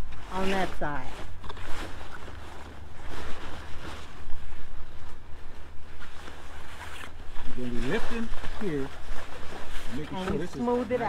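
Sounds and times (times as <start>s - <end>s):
tent canvas rustling: 0.0s - 11.0s.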